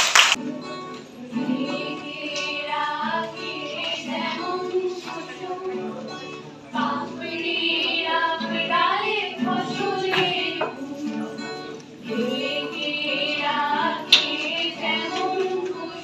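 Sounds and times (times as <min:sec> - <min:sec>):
acoustic guitar strumming: 0:00.4 - 0:16.0
women singing together: 0:00.4 - 0:16.0.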